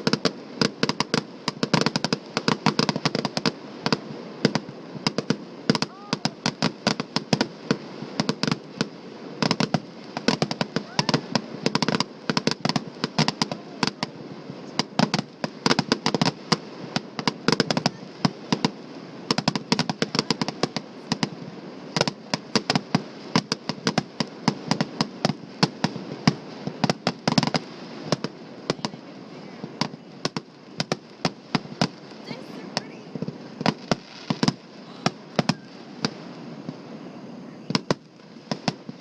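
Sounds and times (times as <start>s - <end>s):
fireworks popping and cracking: 0.0s - 39.0s.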